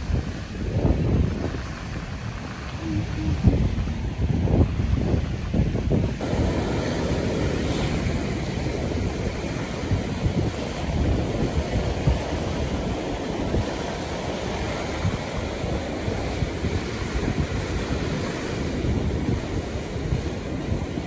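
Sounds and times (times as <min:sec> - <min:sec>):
ocean waves breaking on beach: 0:00.0 - 0:21.0
wind buffeting microphone: 0:00.0 - 0:21.0.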